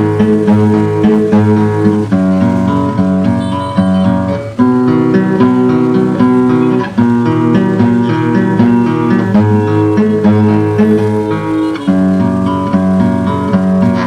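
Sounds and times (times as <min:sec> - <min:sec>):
plucked acoustic guitar melody: 0:00.0 - 0:14.0.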